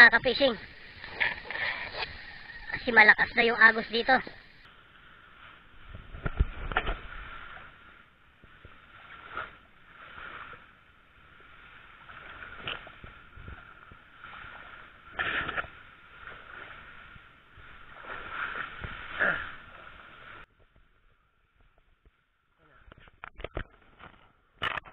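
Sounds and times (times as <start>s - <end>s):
tall grass rustling: 0.0s - 22.2s
faint steady hiss: 0.0s - 23.3s.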